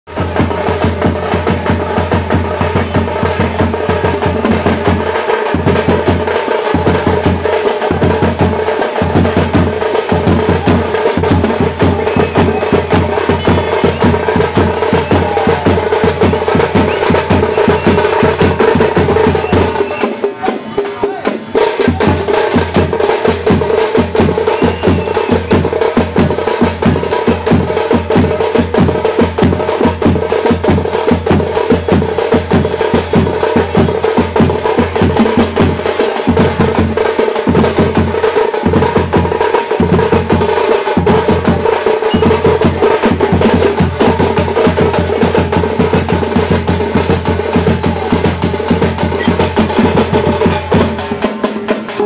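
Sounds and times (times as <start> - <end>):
deep bass drum beat: 0.1 - 52.0
drum band playing: 0.1 - 52.0.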